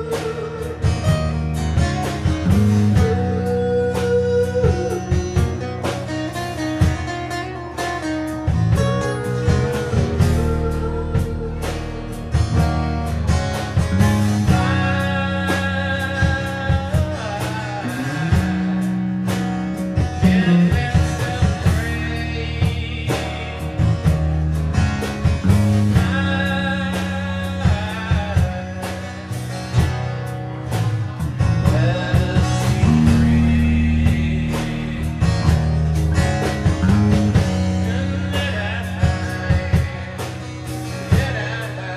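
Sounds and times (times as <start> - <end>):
low bass notes: 0.0 - 41.9
person singing lead vocal: 0.0 - 41.9
strummed guitars: 0.0 - 41.9.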